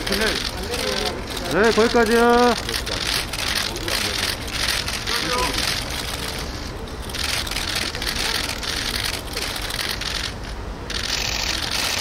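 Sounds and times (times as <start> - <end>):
camera shutters firing in bursts: 0.0 - 12.0.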